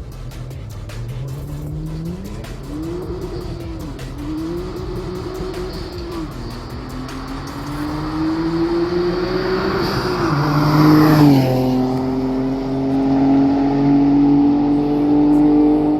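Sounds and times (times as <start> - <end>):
car engine pulling under power: 0.0 - 15.9.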